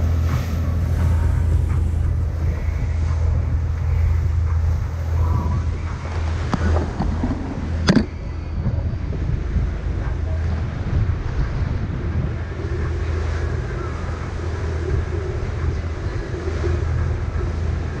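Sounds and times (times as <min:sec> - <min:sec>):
boat engine running: 0:00.0 - 0:18.0
water rushing past hull: 0:00.0 - 0:18.0
wind on microphone: 0:00.0 - 0:18.0.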